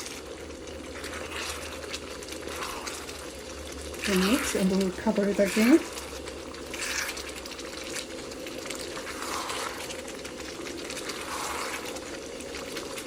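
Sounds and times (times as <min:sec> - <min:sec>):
curry sizzling in a wok: 0:00.0 - 0:13.0.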